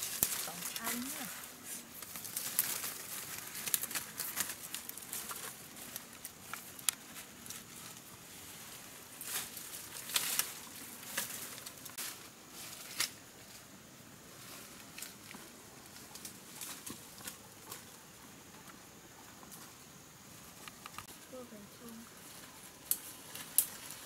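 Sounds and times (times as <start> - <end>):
leaves and stems rustling: 0.0 - 24.0.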